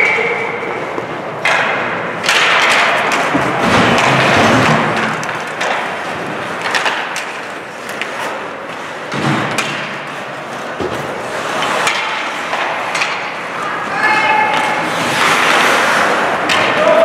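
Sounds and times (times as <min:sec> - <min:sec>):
skates scraping on ice: 0:00.0 - 0:17.0
sticks knocking puck: 0:00.6 - 0:17.0.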